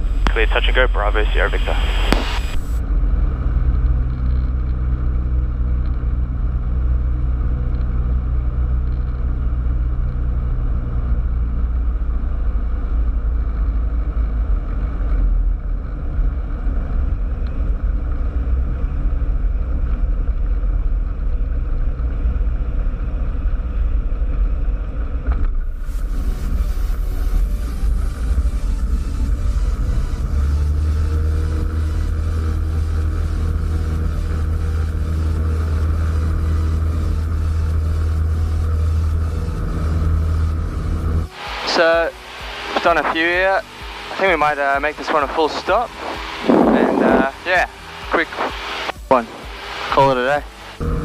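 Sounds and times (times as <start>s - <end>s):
airplane engine and propeller droning: 0.0s - 51.0s
low hum: 0.0s - 51.0s.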